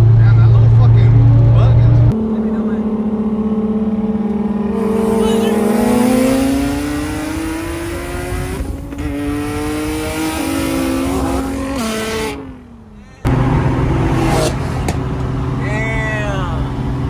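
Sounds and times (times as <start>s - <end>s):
car engine accelerating: 0.0s - 17.0s
loud steady engine drone: 0.0s - 17.0s.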